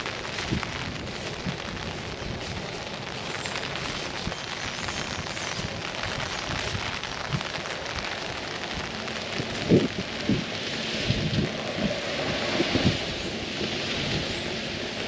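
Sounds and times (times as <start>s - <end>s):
rain falling on umbrella: 0.0s - 15.0s.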